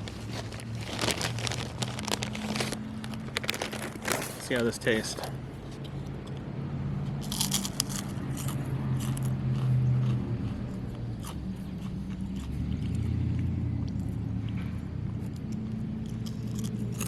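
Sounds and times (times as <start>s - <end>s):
potato chip crunching: 0.0s - 5.3s, 7.2s - 14.2s, 15.2s - 17.0s.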